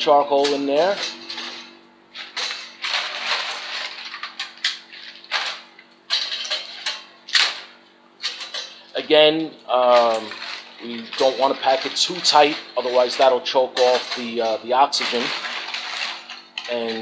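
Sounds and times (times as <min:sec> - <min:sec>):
charcoal clattering into metal: 0:00.0 - 0:17.0.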